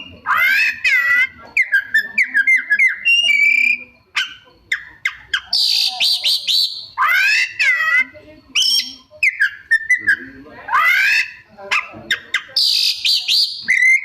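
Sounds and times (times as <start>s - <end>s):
songbird singing varied whistles: 0.0s - 10.3s, 12.1s - 14.0s.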